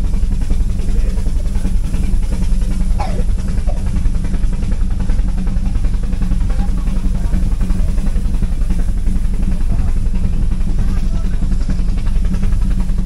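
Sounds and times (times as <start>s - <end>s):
cog railway train rumbling: 0.0s - 13.0s
fast continuous rattling: 0.0s - 13.0s.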